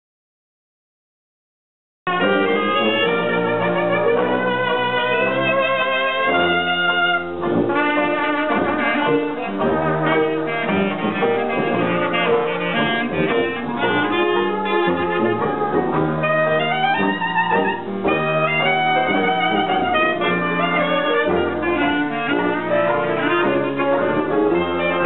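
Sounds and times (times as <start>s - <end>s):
horns playing melodic lines: 2.1s - 25.0s
jazz band playing: 2.1s - 25.0s.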